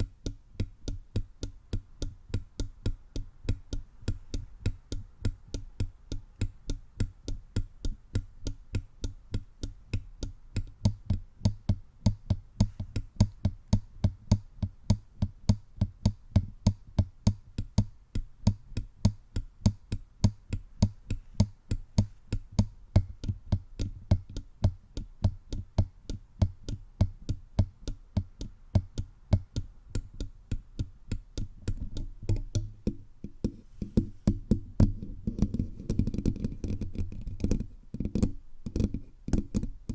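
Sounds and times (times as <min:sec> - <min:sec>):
fingertips tapping microphone: 0:00.0 - 0:39.9.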